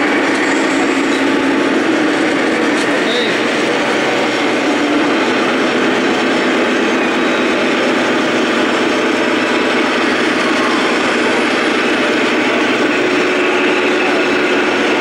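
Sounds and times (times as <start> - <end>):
sound module diesel engine: 0.0 - 15.0.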